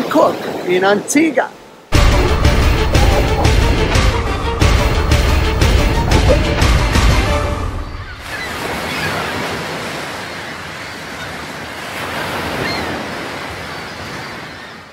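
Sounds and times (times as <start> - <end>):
ocean waves washing: 0.0 - 14.7.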